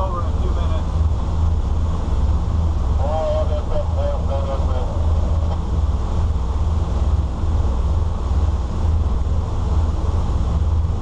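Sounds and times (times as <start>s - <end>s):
boat engines droning: 0.0s - 11.0s
choppy water against hull: 0.0s - 11.0s.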